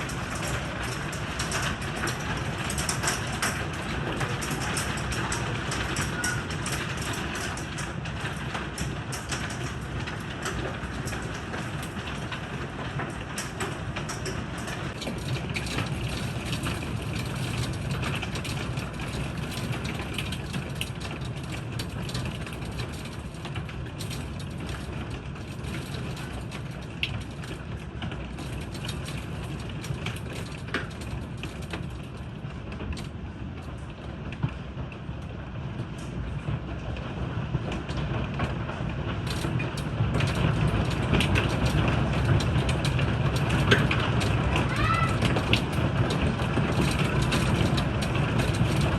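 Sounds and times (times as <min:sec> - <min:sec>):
hailstones clicking: 0:00.0 - 0:35.2, 0:35.8 - 0:48.9
heavy rain: 0:00.0 - 0:48.9.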